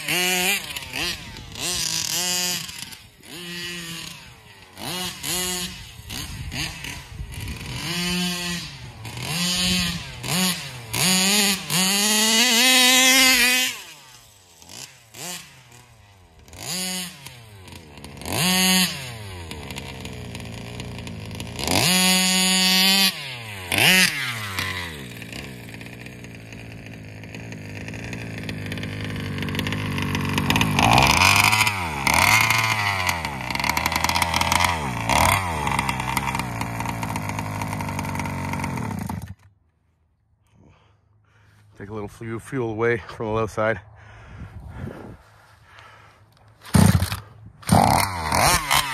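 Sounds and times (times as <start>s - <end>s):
two-stroke engine revving: 0.0s - 39.5s, 45.6s - 48.9s.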